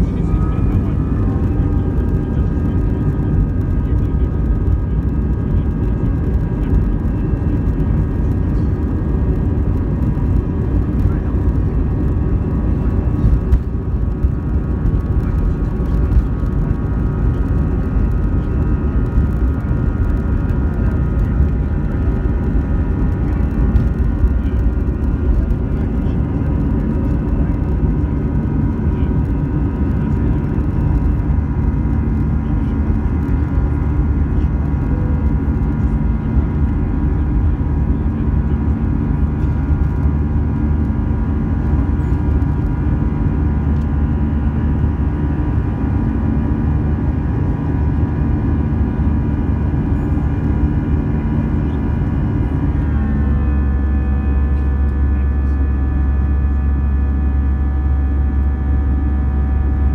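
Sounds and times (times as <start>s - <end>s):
jet engines roaring in cabin: 0.0s - 59.9s.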